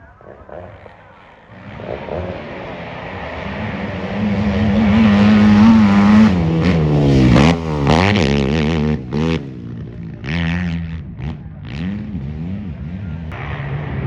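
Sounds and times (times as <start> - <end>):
motocross engine revving: 0.5 - 14.0.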